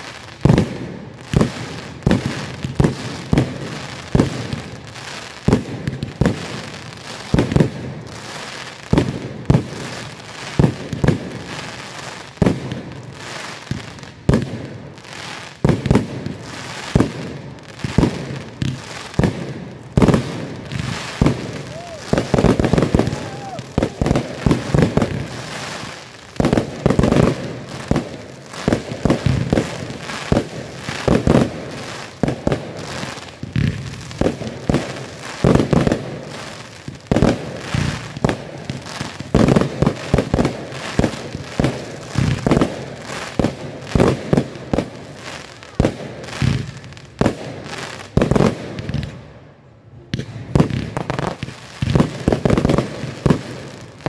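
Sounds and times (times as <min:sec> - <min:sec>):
fireworks bursting with loud bangs: 0:00.0 - 0:54.0.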